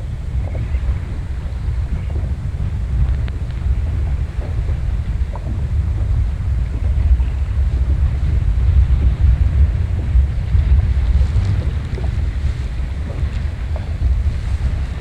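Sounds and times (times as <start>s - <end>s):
water splashing against boat hull: 0.0s - 15.0s
wind buffeting microphone: 0.0s - 15.0s.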